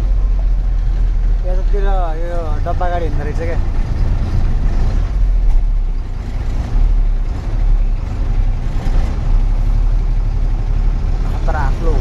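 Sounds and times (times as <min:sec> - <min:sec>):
truck engine low hum: 0:00.0 - 0:12.0.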